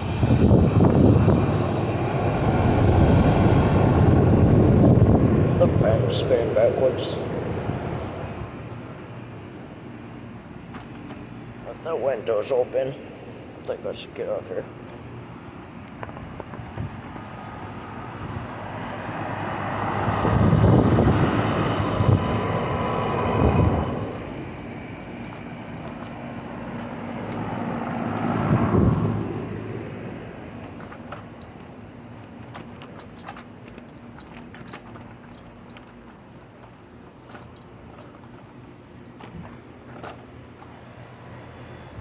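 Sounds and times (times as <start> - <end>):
steady mechanical hum: 0.0 - 42.0
vehicles passing by: 0.0 - 42.0.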